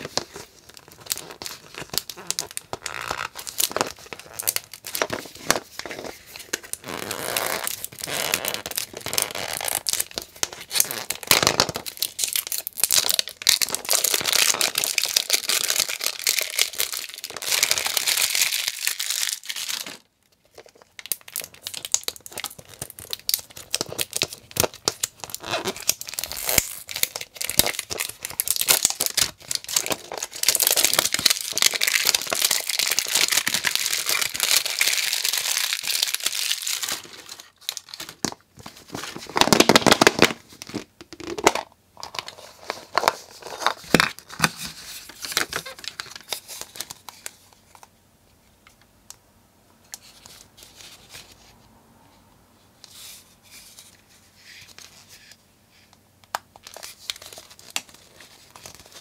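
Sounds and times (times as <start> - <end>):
plastic wrapper crinkling and tearing: 0.0 - 47.9, 56.3 - 59.0.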